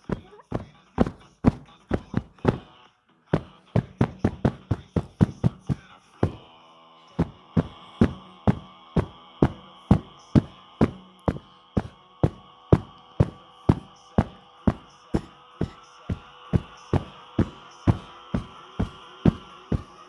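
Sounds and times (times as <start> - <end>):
sharp rhythmic knocks: 0.0 - 2.7, 3.4 - 6.4, 7.2 - 20.0.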